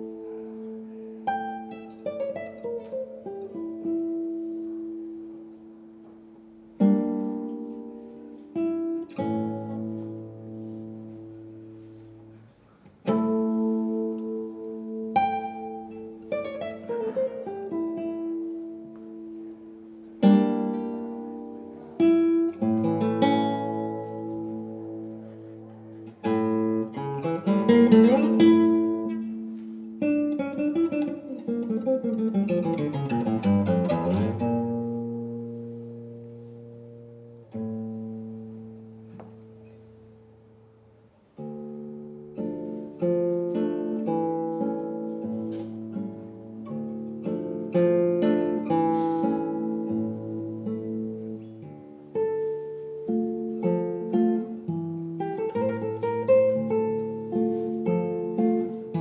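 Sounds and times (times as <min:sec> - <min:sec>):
classical guitar chords: 0:00.0 - 0:59.0.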